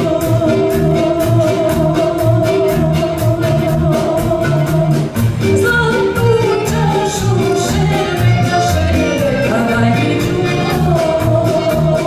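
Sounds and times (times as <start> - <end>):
live band playing: 0.0 - 12.0
woman singing: 0.0 - 12.0.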